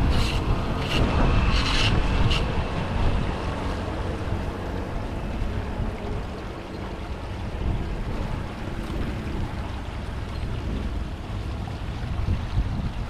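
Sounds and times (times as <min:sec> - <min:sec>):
water rushing down storm drain: 0:00.0 - 0:13.0.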